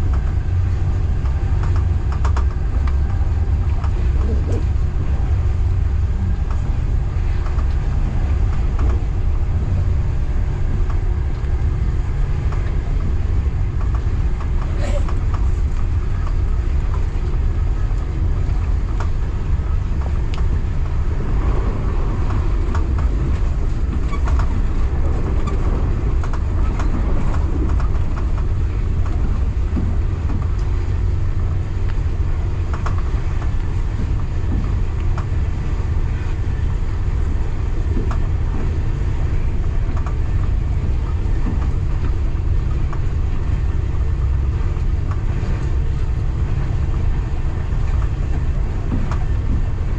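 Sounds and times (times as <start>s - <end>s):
train rumbling along track: 0.0s - 49.9s.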